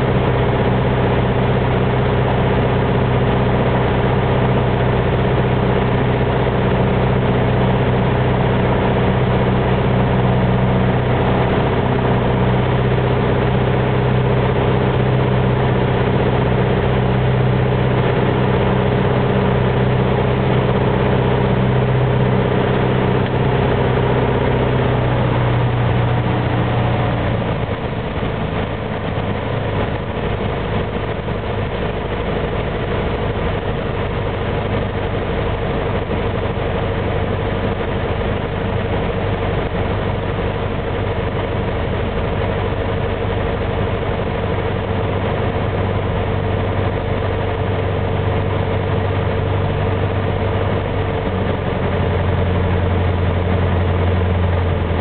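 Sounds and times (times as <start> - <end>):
aircraft engines droning: 0.0 - 55.0.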